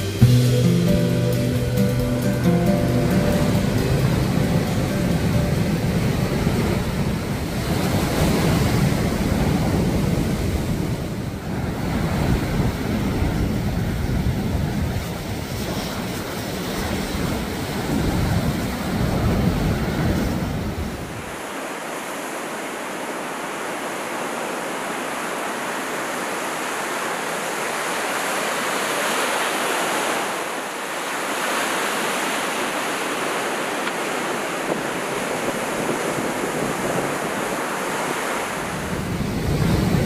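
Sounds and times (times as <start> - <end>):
surf breaking over rocks: 0.0 - 22.8, 24.0 - 40.0.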